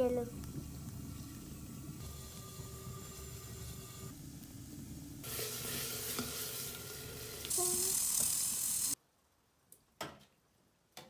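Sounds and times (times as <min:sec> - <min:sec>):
food sizzling in a pot: 0:00.0 - 0:09.0.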